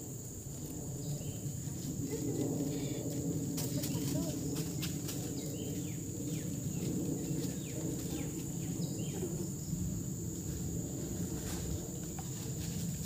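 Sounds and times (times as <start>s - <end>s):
insects droning: 0.0s - 13.0s
low rumble: 0.0s - 13.0s.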